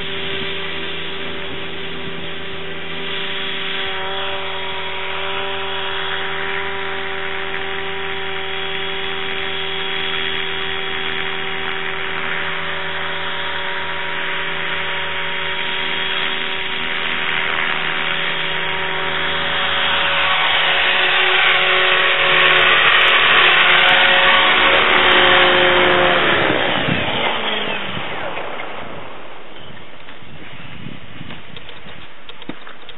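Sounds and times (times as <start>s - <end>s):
small engine running at high speed: 0.0s - 32.9s.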